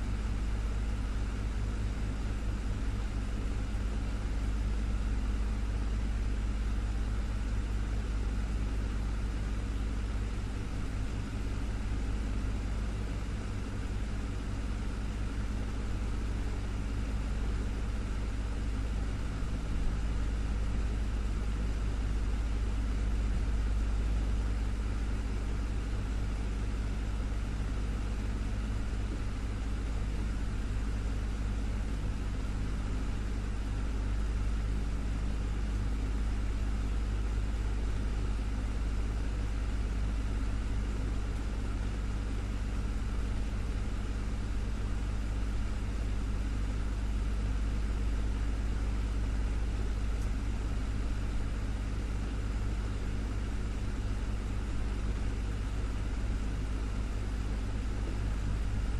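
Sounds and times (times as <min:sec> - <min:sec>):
desktop fan running: 0:00.0 - 0:58.9.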